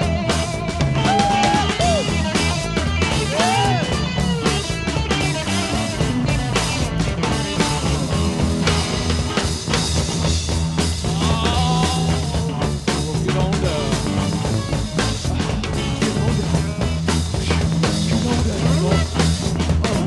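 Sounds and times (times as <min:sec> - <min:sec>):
drum kit beat: 0:00.0 - 0:20.0
rock music: 0:00.0 - 0:20.0.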